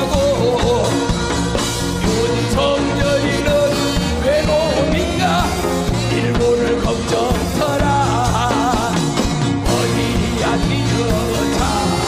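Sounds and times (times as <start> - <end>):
live rock band playing: 0.0 - 12.0
man singing into microphone: 0.0 - 12.0.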